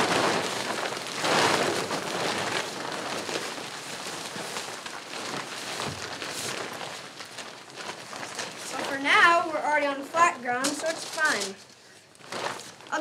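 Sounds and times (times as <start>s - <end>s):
plastic tarp crinkling: 0.0s - 13.0s.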